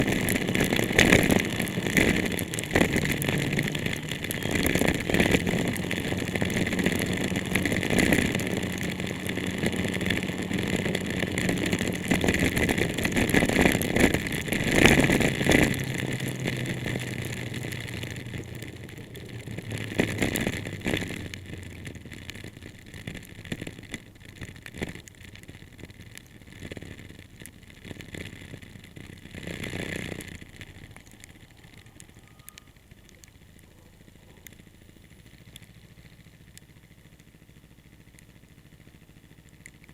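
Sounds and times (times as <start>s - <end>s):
car engine hum: 0.0s - 39.9s
rain and tyre spray hiss: 0.0s - 39.9s.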